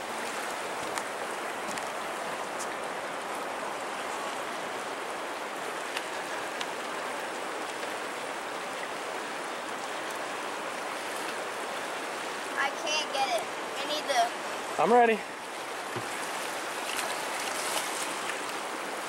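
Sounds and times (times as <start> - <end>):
river water splashing: 0.0 - 19.0.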